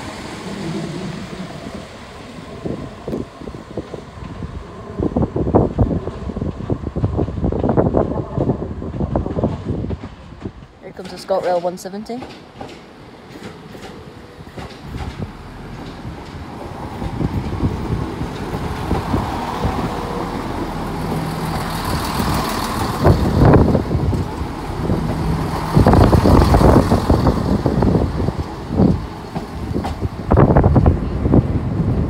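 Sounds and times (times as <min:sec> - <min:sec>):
diesel train passing: 0:00.0 - 0:32.0.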